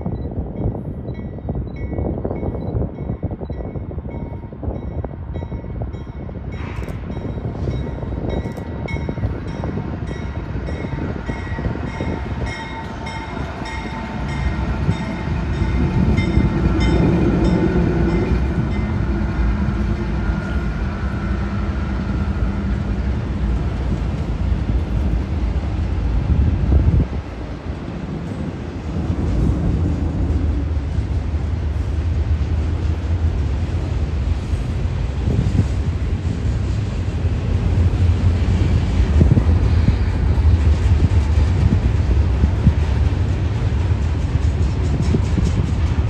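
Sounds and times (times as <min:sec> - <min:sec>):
diesel locomotives passing: 0:00.0 - 0:46.0
freight train rumbling on rails: 0:00.0 - 0:46.0.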